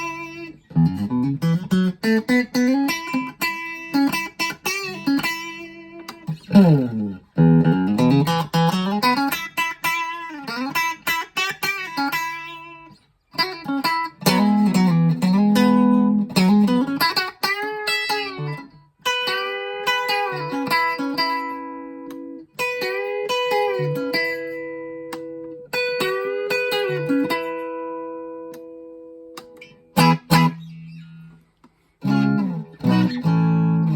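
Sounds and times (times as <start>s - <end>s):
electric guitar playing: 0.0s - 33.9s.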